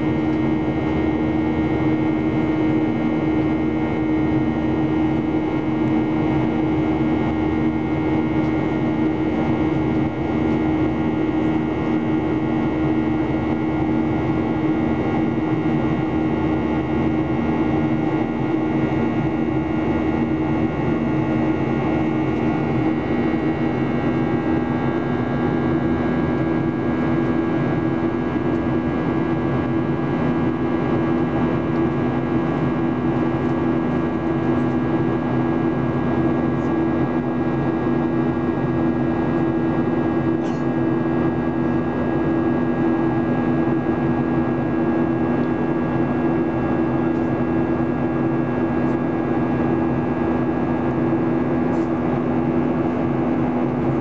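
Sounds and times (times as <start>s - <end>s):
two-tone engine hum: 0.0s - 54.0s.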